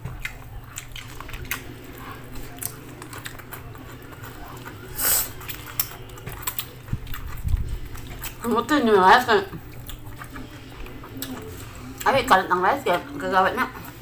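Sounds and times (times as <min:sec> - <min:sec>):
low hum: 0:00.0 - 0:14.0
people chewing food: 0:00.0 - 0:14.0.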